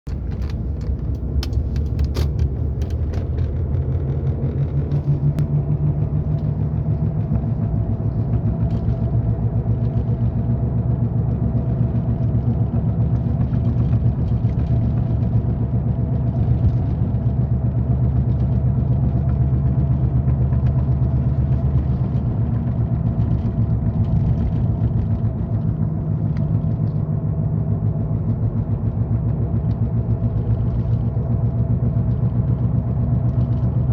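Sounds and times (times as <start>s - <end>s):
car driving low drone: 0.1s - 33.9s.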